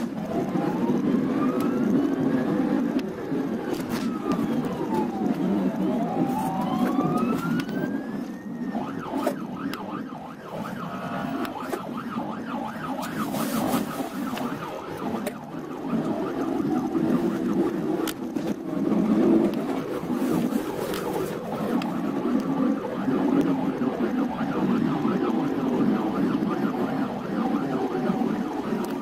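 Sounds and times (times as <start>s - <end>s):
ambulance siren: 0.0s - 29.0s
traffic and road rumble: 0.0s - 29.0s.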